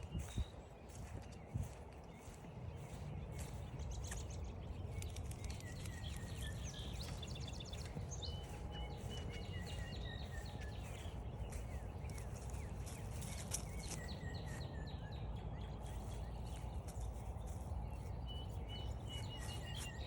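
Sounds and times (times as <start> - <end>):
songbirds singing: 0.0 - 20.0
wind rumble on microphone: 0.0 - 20.0.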